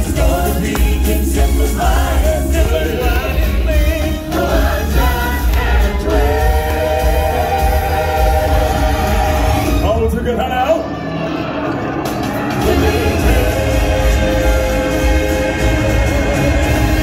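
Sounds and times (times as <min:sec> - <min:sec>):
group of singers: 0:00.0 - 0:09.8, 0:11.3 - 0:17.0
band music with heavy bass: 0:00.0 - 0:10.4, 0:11.0 - 0:17.0.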